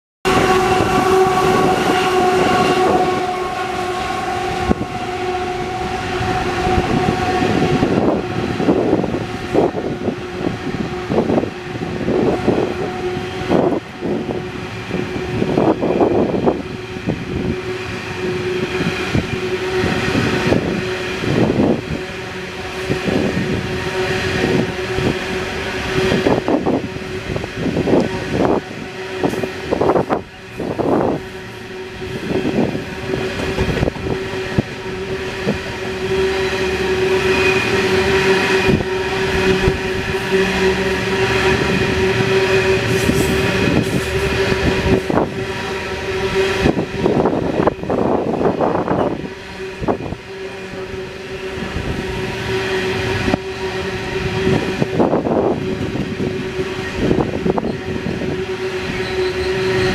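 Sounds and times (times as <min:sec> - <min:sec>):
train passing: 0:00.2 - 0:59.9.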